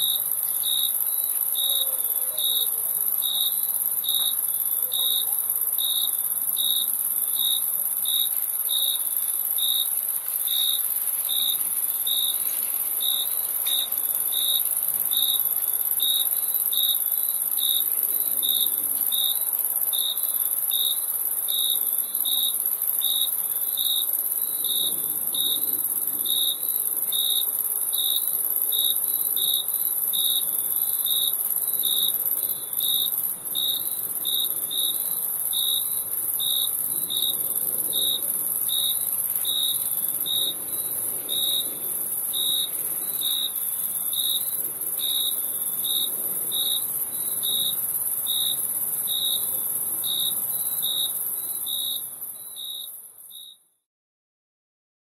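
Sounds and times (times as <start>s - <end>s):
cricket chirping: 0.0s - 53.7s.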